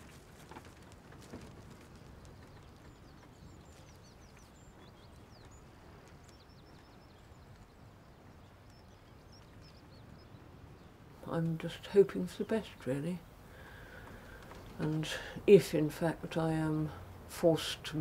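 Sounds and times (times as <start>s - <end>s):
low steady background rumble: 0.0s - 18.0s.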